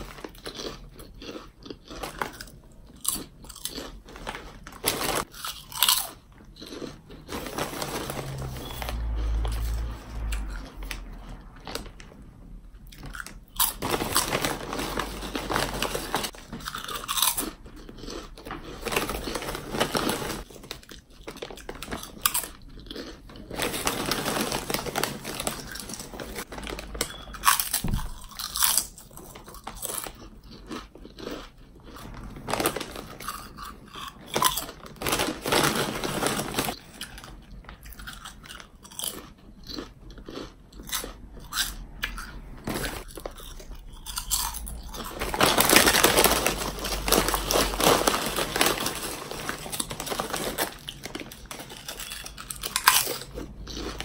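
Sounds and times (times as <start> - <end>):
crunching potato chips: 0.0 - 54.0.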